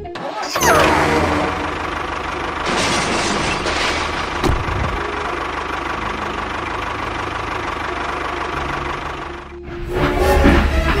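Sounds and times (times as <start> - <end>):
small engine running: 0.1 - 2.7, 4.2 - 11.0.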